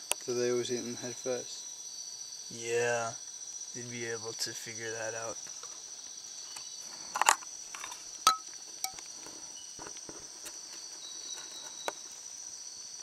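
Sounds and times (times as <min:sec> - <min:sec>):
night insects trilling: 0:00.0 - 0:13.0.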